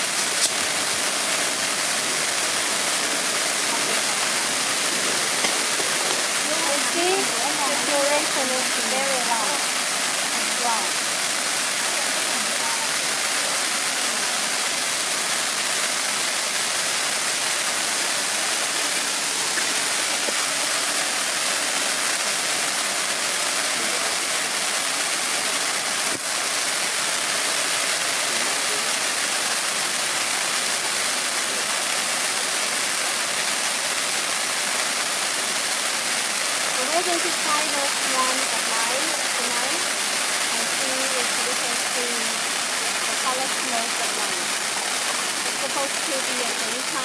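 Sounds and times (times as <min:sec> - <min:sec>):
firework fountain hissing sparks: 0:00.0 - 0:47.0.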